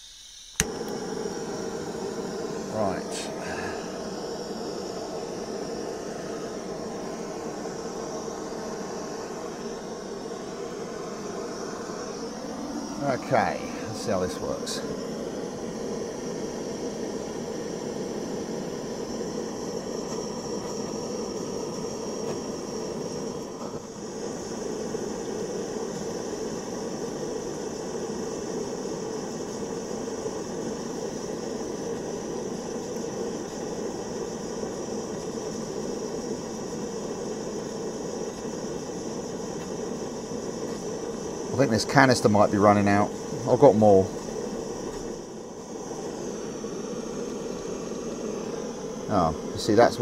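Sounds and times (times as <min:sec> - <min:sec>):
blowtorch hissing: 0:00.0 - 0:50.0.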